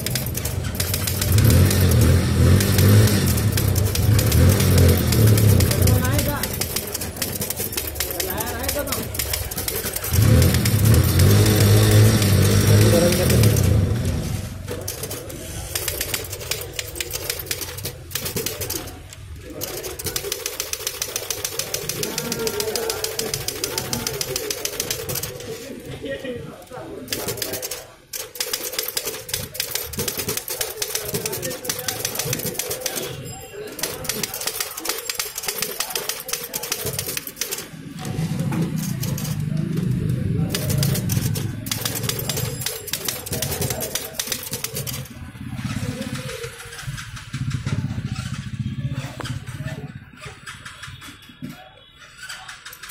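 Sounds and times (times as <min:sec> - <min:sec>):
manual typewriter keys clacking: 0:00.0 - 0:14.0, 0:14.6 - 0:25.9, 0:27.0 - 0:52.9.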